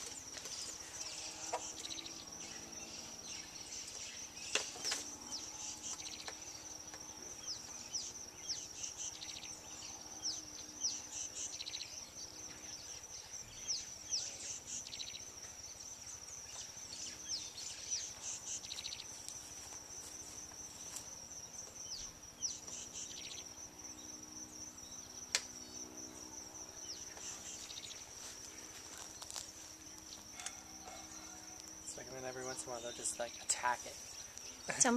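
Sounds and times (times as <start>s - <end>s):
high insect trill: 0.0s - 34.9s.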